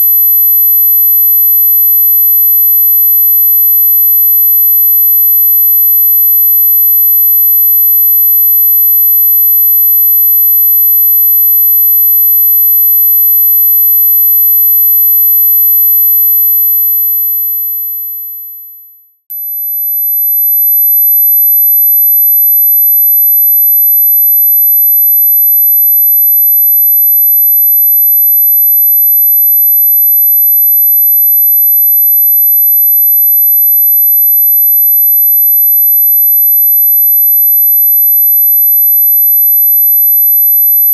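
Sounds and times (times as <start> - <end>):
high pure sine tone: 0.0 - 40.9.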